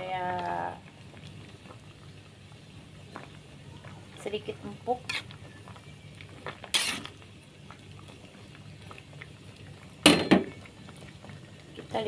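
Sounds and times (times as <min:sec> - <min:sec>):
pots boiling: 0:00.0 - 0:12.0.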